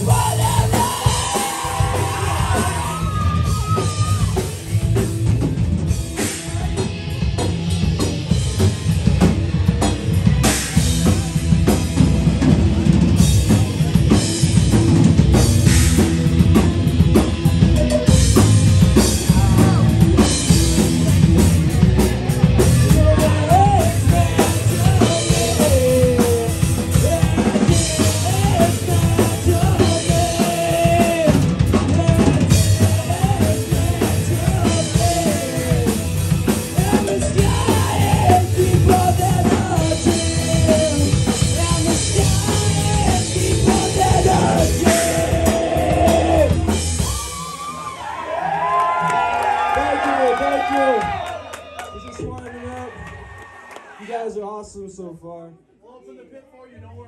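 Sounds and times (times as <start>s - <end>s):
live rock band playing: 0.0s - 49.8s
loud busy drum kit: 0.0s - 53.7s.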